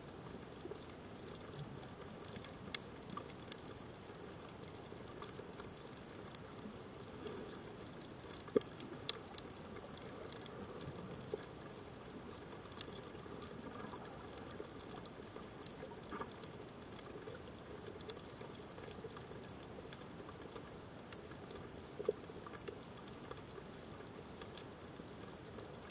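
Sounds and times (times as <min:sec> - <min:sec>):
steady underwater hiss: 0:00.0 - 0:25.9
sharp clicks and crackles: 0:00.1 - 0:25.9.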